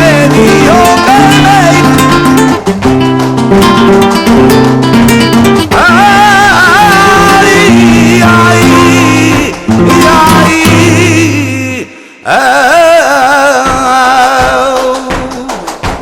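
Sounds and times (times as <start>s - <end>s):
person singing: 0.0s - 2.6s, 5.6s - 16.0s
plucked acoustic guitar: 0.0s - 11.9s, 13.4s - 16.0s.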